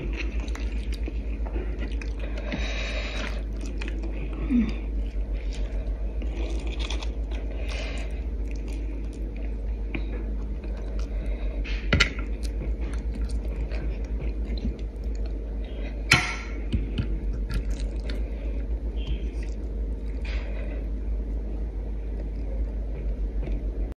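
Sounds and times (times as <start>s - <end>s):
soft chewing: 0.0s - 23.9s
steady low hum: 0.0s - 23.9s.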